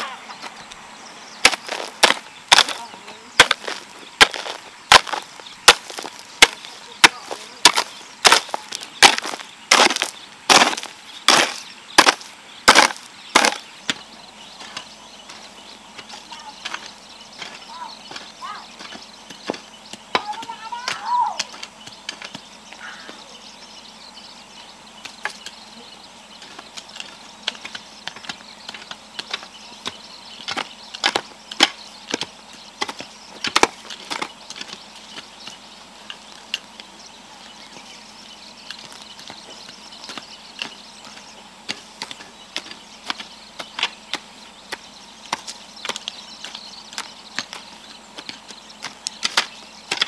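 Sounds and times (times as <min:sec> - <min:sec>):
hand hoes chopping soil: 0:01.4 - 0:23.4, 0:24.9 - 0:36.9, 0:38.6 - 0:50.0.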